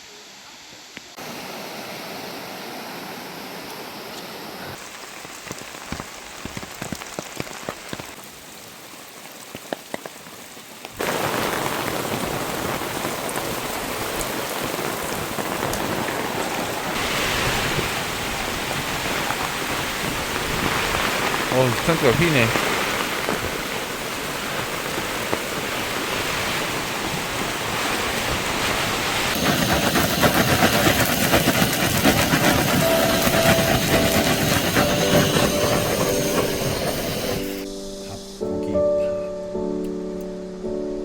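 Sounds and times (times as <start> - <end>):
heavy rain pouring: 3.9 - 38.5.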